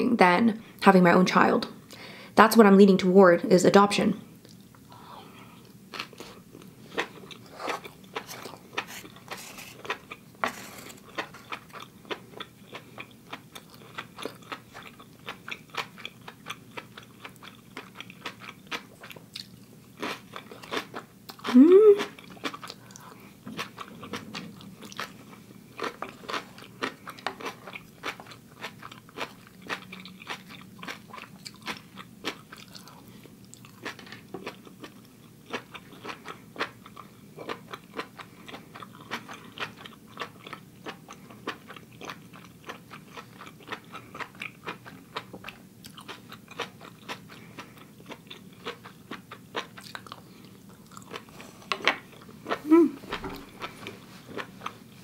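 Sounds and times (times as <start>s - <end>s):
person chewing: 5.4s - 55.0s.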